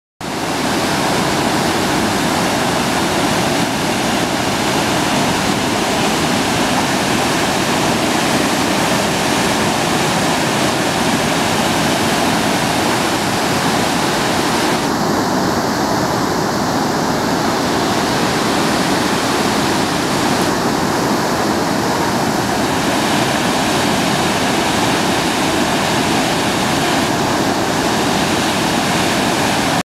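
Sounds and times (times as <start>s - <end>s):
river rushing over a weir: 0.2s - 29.8s.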